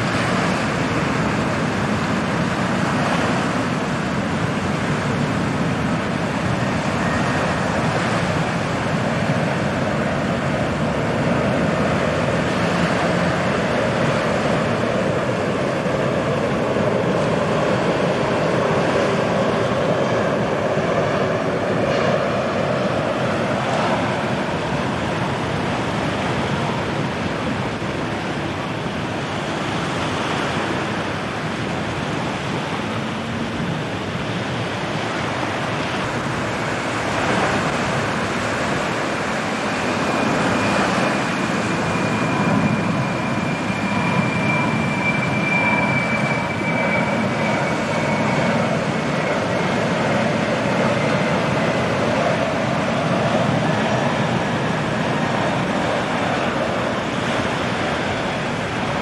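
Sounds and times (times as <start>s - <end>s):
high jet engine whine: 0.0s - 59.0s
jet engines roaring: 0.0s - 59.0s.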